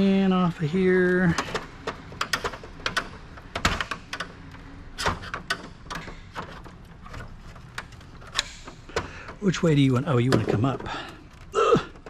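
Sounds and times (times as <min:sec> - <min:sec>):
clicks and knocks of fan removal: 0:01.0 - 0:12.0.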